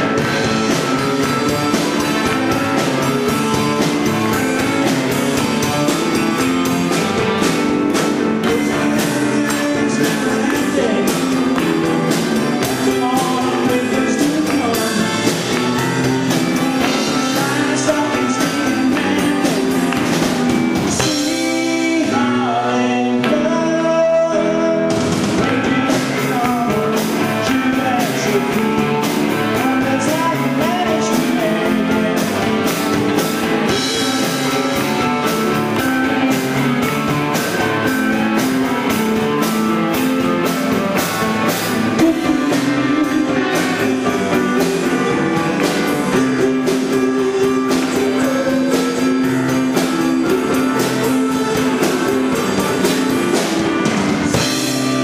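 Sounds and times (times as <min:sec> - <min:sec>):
drum kit beat: 0:00.0 - 0:55.0
electric guitar: 0:00.0 - 0:55.0.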